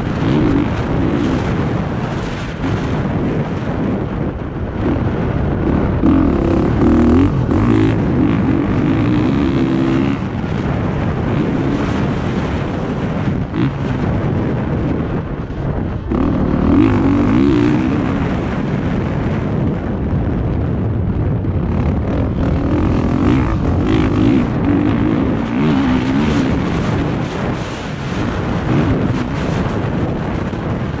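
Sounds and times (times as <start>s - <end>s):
motorbike engine revving: 0.0s - 3.8s, 4.6s - 14.5s, 15.9s - 19.4s, 21.4s - 31.0s.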